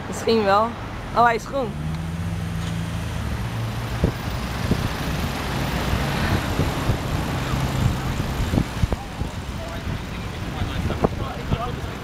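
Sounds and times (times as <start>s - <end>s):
car engines droning: 0.0s - 12.0s
street noise: 0.0s - 12.0s.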